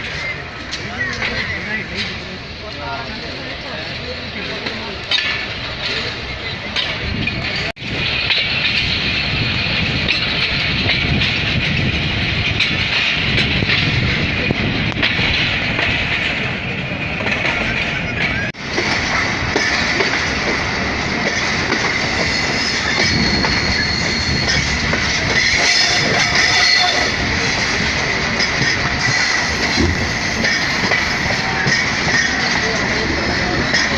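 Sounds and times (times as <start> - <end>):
train wheels clickety-clack: 0.0 - 3.1, 3.9 - 33.9.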